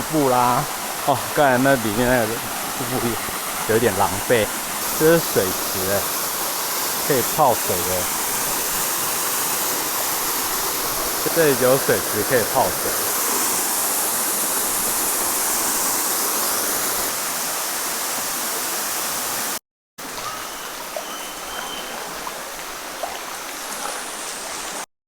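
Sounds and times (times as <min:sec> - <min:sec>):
waterfall splashing into pool: 0:00.0 - 0:24.9.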